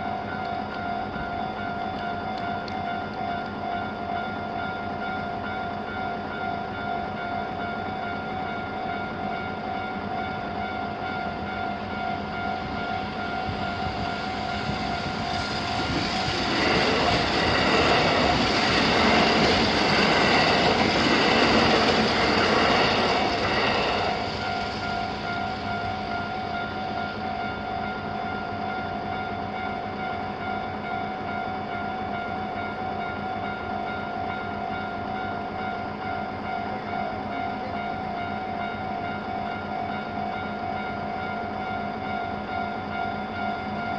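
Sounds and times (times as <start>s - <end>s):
level-crossing warning bells: 0.0s - 43.9s
train passing on rails: 0.0s - 43.9s.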